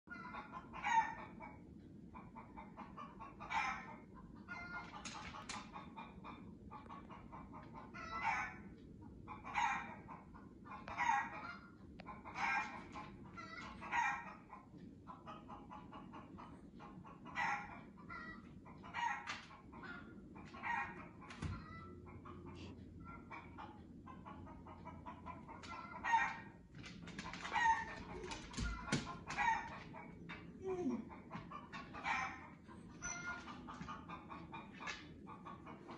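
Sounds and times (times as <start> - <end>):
chickens clucking through speakers: 0.1 - 35.9.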